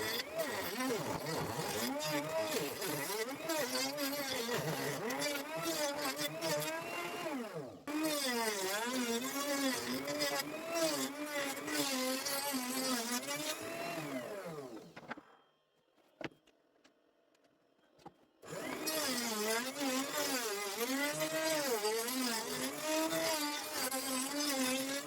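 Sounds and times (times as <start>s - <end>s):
power tool motor cutting wood: 0.0s - 15.0s, 18.4s - 25.0s.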